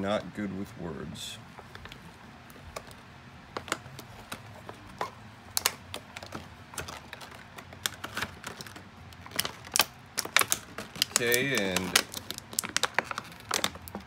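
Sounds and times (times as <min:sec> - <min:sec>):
plastic packaging crinkling: 0:01.7 - 0:14.0.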